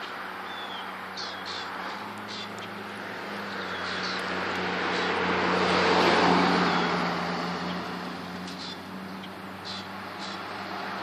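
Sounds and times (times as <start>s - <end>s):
car passing by: 0.0s - 11.0s.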